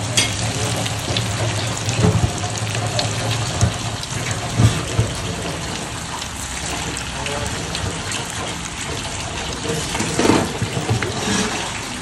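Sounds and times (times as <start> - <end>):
batter sizzling in hot oil: 0.0 - 12.0.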